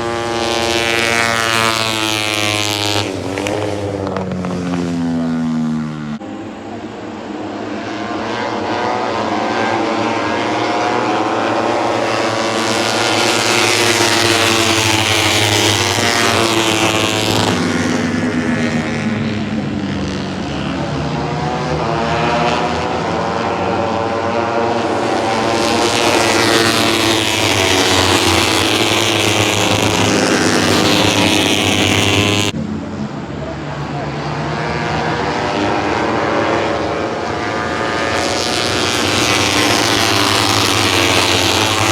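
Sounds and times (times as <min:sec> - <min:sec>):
racing motorcycles passing: 0:00.0 - 0:41.9.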